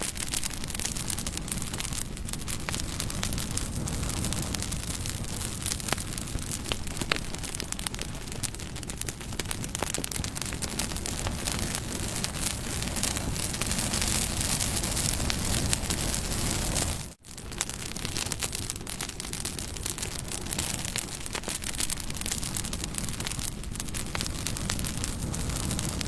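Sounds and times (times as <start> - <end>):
burning wood crackling and popping: 0.0 - 26.0
campfire flame rushing: 0.0 - 26.0.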